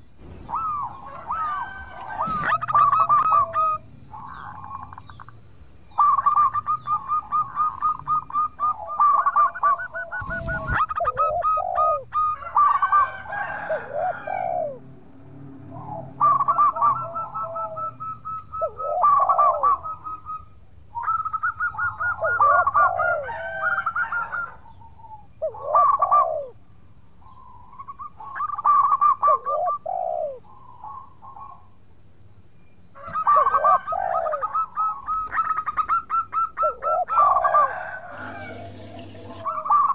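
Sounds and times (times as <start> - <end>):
dove cooing: 0.2 - 14.9, 15.6 - 26.6, 27.4 - 31.7, 33.0 - 39.9.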